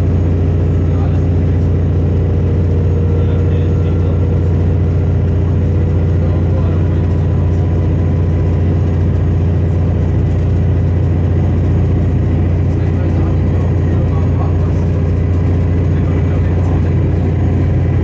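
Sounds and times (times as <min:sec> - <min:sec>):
diesel railcar engine drone: 0:00.0 - 0:18.0.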